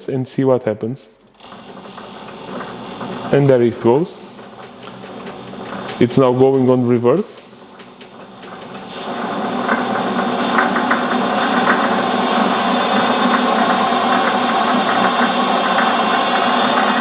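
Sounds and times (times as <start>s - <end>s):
lathe motor whine: 1.3s - 17.0s.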